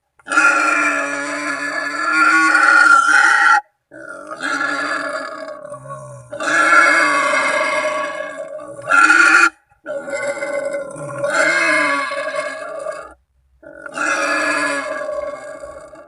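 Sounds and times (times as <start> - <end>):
wild boar screaming: 0.3 - 16.0.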